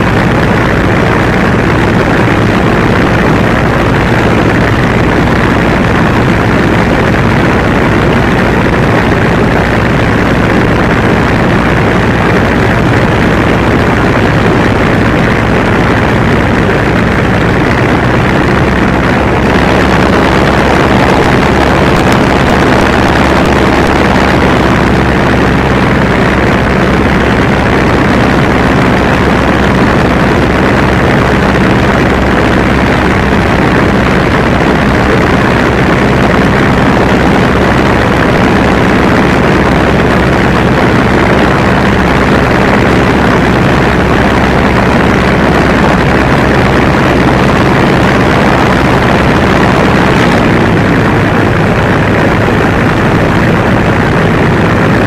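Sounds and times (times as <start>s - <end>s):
aircraft engine and propeller running: 0.0s - 55.0s
rushing airflow: 0.0s - 55.0s.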